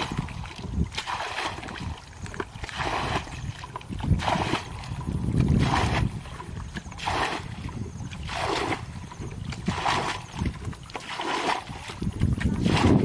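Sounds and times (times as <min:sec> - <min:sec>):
bucket bailing water splashes: 0:00.0 - 0:13.0.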